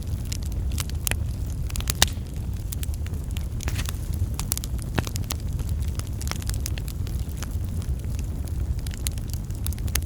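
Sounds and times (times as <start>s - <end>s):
campfire pops and snaps: 0.0s - 10.0s
low rumble of burning fire: 0.0s - 10.0s.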